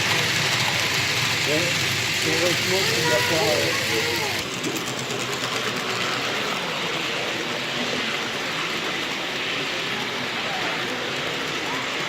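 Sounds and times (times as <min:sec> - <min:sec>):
model train wheels clicking: 0:00.0 - 0:12.0
steady background hum: 0:00.0 - 0:12.0.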